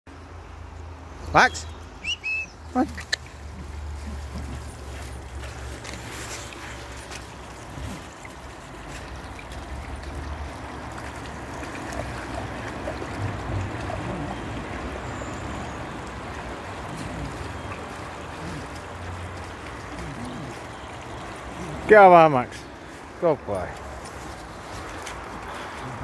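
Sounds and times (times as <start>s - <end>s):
stream running over stones: 0.2s - 26.0s
dog wading through water: 2.0s - 26.0s.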